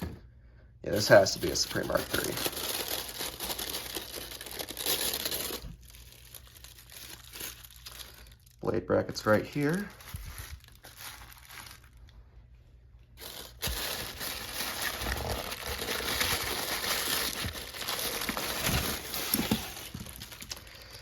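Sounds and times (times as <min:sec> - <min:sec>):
packing material crinkling: 0:01.0 - 0:12.2, 0:13.1 - 0:21.0.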